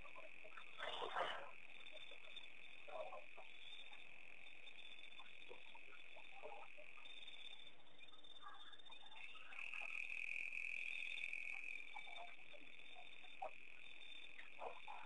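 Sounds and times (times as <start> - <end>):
frog croaks: 0.0 - 15.0
insects trilling: 0.0 - 15.0.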